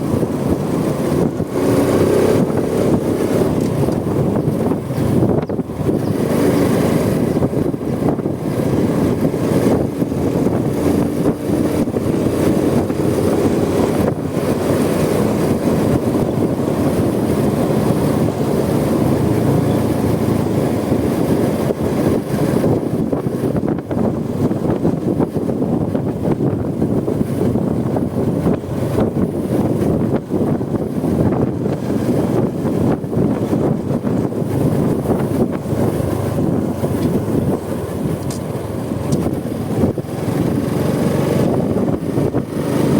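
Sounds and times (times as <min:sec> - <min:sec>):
motorcycle engine running: 0:00.0 - 0:42.9
wind noise on microphone: 0:00.0 - 0:42.9.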